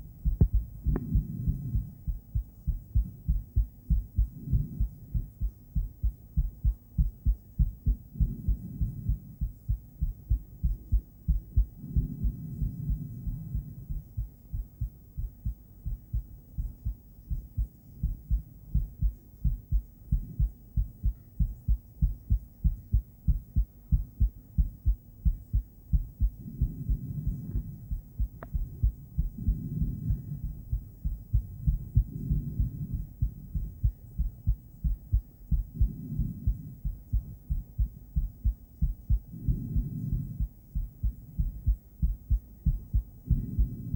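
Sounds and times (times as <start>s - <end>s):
heartbeat pulses on doppler: 0.0s - 43.9s.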